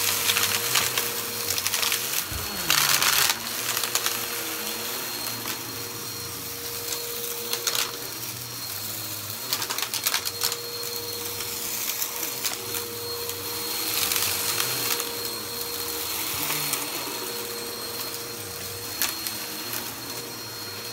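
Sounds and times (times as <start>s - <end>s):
vacuum cleaner running: 0.0s - 20.9s.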